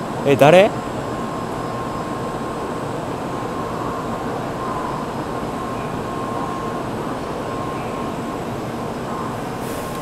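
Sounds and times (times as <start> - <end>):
faint constant whine: 0.0 - 10.0
train equipment whirring: 0.8 - 10.0.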